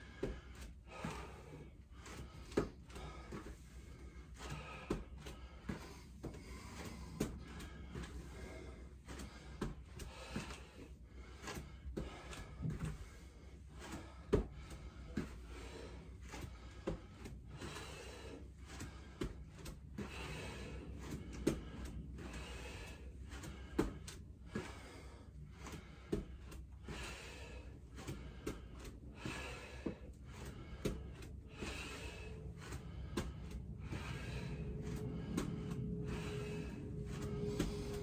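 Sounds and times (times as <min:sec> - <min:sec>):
person breathing hard: 0:00.0 - 0:38.0.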